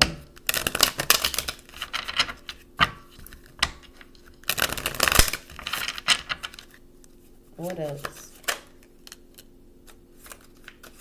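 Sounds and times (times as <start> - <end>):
cards being shuffled: 0.3 - 11.0.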